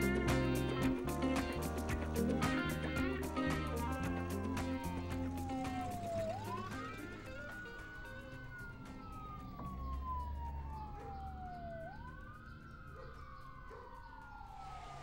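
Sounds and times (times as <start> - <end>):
emergency siren wailing: 0.0 - 15.0
low traffic rumble: 0.0 - 15.0.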